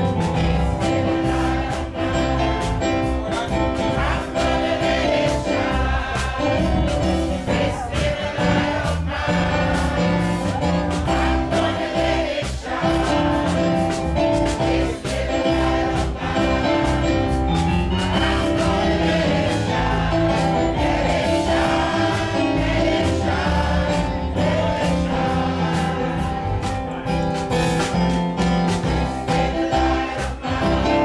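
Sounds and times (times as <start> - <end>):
band playing over a beat: 0.0 - 31.0
choir singing gospel: 0.0 - 31.0.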